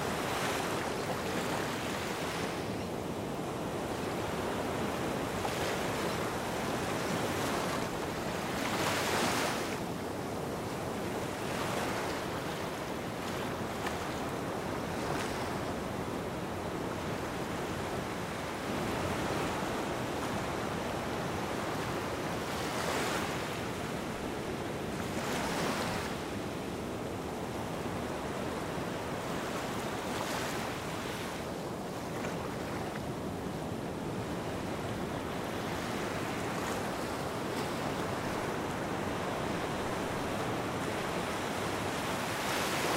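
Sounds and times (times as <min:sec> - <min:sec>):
small waves washing onto sand: 0:00.0 - 0:42.9.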